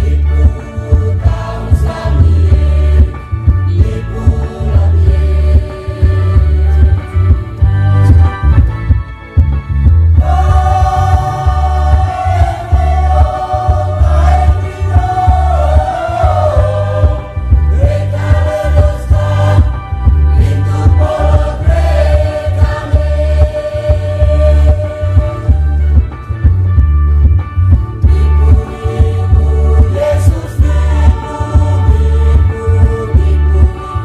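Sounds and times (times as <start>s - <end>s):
choir singing a hymn: 0.0s - 7.4s, 10.2s - 25.6s, 28.1s - 34.0s
pulsing low beat: 0.0s - 34.0s.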